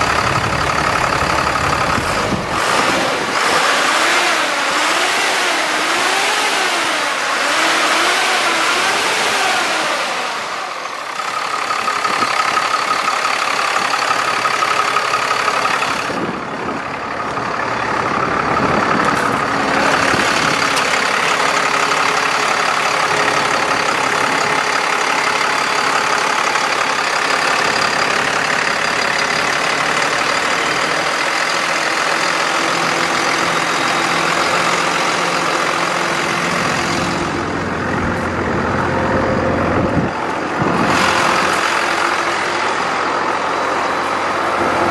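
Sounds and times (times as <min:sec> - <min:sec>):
cooling fan and belts turning: 0:00.0 - 0:44.9
truck engine idling: 0:00.0 - 0:44.9.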